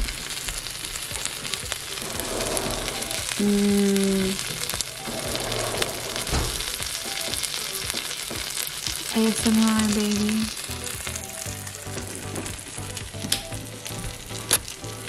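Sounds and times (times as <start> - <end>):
burrito sizzling in frying pan: 0.0 - 15.0.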